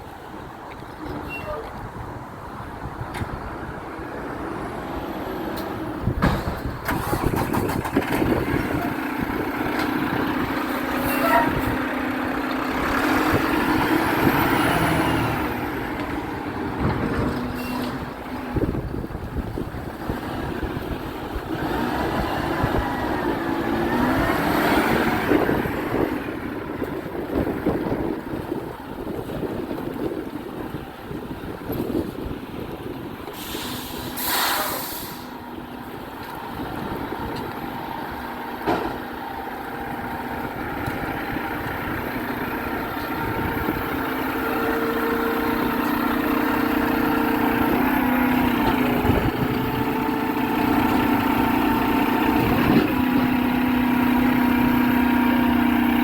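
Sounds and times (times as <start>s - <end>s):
garbage truck engine running: 5.4s - 34.2s, 35.1s - 56.0s.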